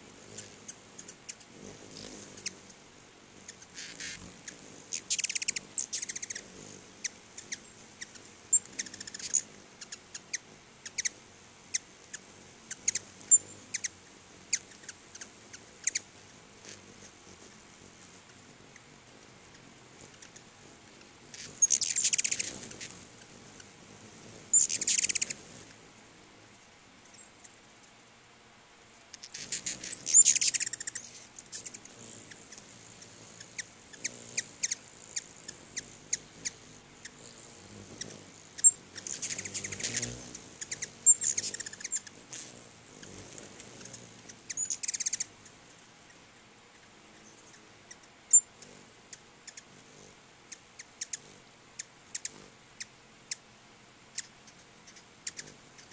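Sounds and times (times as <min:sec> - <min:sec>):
hummingbirds chattering: 0:00.0 - 0:55.9.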